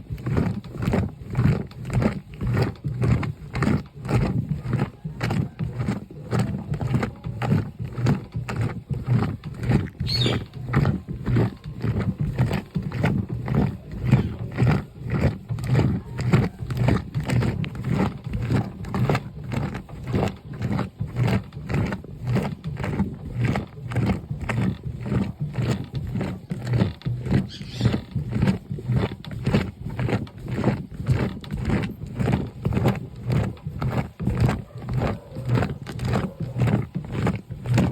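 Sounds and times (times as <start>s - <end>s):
washing machine churning: 0.0s - 37.9s.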